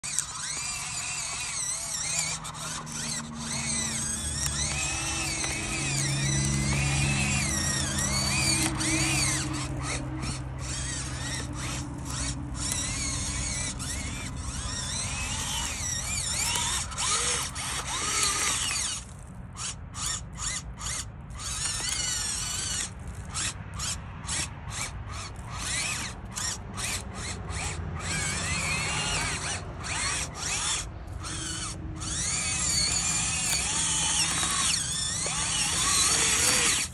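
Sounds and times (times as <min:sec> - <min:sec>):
electric motors whining: 0:00.0 - 0:36.9.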